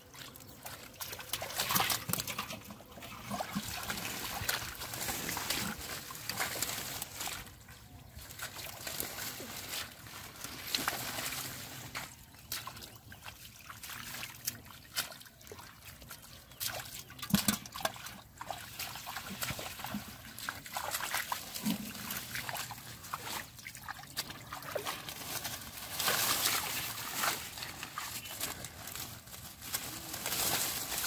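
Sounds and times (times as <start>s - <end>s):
muddy water sloshing and splashing: 0.0s - 31.0s
squelches in mud: 0.0s - 31.0s.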